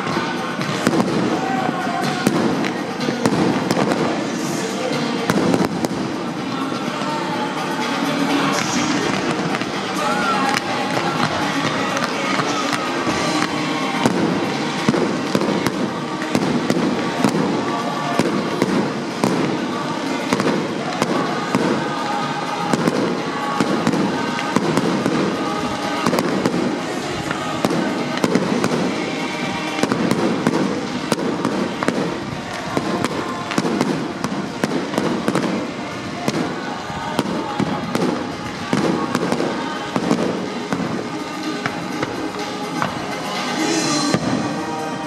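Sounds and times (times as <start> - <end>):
fireworks bangs and crackles: 0.0 - 7.1, 7.8 - 45.0.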